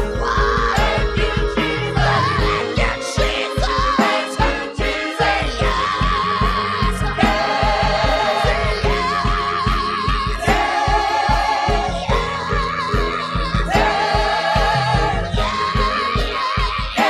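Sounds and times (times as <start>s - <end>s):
gospel worship singing over beat: 0.0s - 17.0s.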